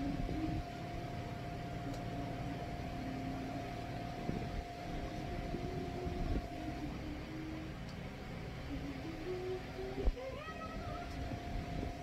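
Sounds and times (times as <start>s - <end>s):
constant whine: 0.0s - 12.0s
machine hum and hiss: 0.0s - 12.0s.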